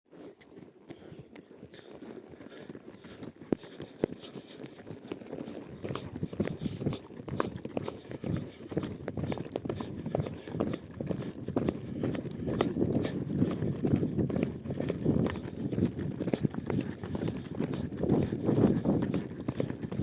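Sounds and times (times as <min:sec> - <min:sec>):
horses galloping: 0:00.1 - 0:20.0.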